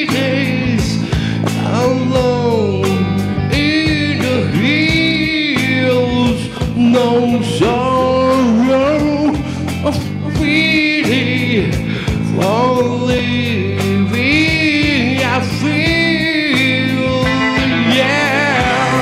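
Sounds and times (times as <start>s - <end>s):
amplified backing music: 0.0s - 19.0s
man singing into microphone: 0.0s - 19.0s.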